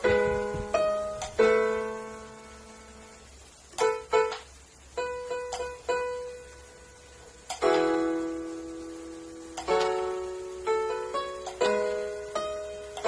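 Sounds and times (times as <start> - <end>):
digital keyboard notes and chords: 0.0 - 13.0.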